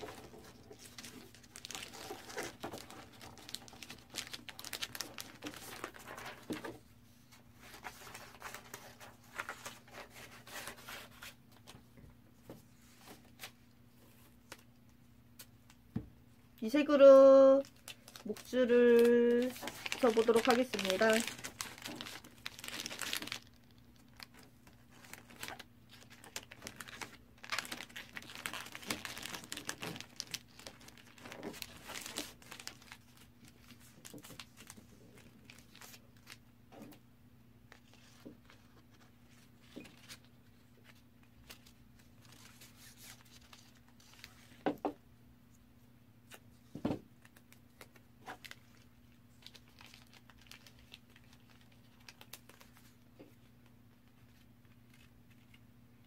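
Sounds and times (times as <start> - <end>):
paper rustling and crinkling: 0.0 - 11.8, 17.6 - 37.0, 37.7 - 44.7, 46.3 - 55.6.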